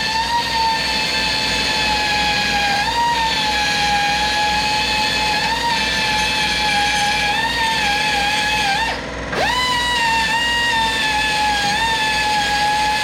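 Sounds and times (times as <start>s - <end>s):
power tool whining: 0.0s - 13.0s.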